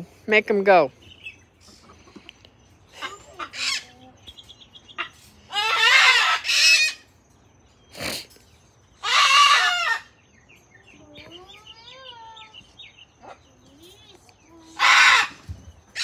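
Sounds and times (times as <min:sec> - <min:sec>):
chickens clucking and chirping: 0:00.0 - 0:16.0
chickens squawking: 0:01.0 - 0:07.2, 0:07.8 - 0:16.0.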